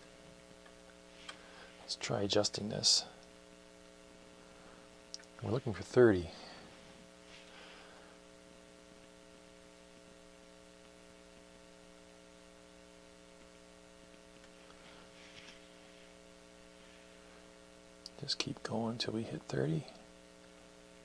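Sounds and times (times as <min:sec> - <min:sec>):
faint mains hum: 0:00.0 - 0:21.0.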